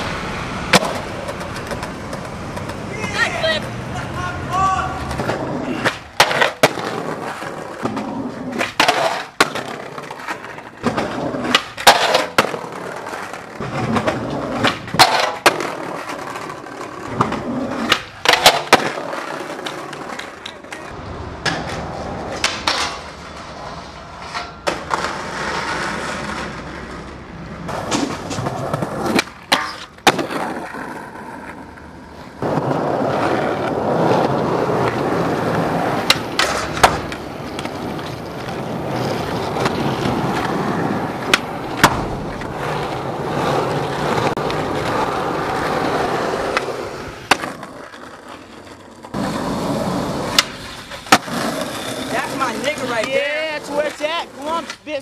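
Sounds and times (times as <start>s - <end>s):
skateboard wheels rolling on pavement: 0.0s - 55.0s
skateboard wooden clacks: 0.7s - 4.1s, 4.9s - 55.0s.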